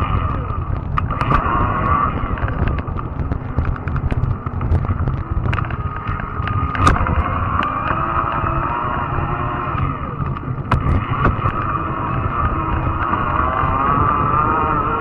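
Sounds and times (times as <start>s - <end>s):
bike clicks and rattles: 0.0s - 15.0s
electric motor whine: 0.0s - 15.0s
wind buffeting microphone: 0.0s - 15.0s.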